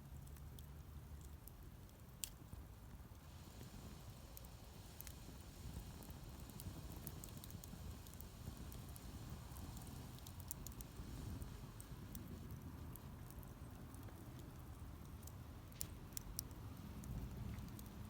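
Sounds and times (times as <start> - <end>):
campfire crackles and pops: 0.0 - 18.0.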